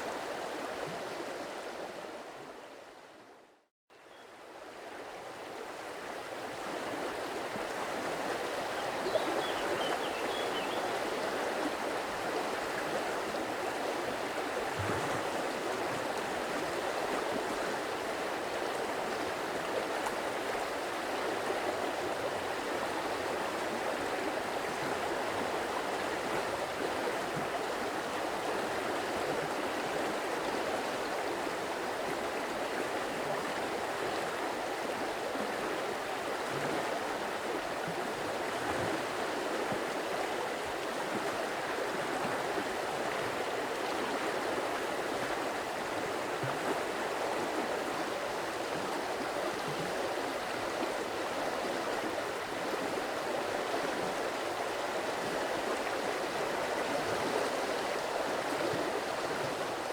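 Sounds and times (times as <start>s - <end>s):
stream water running: 4.1s - 59.9s.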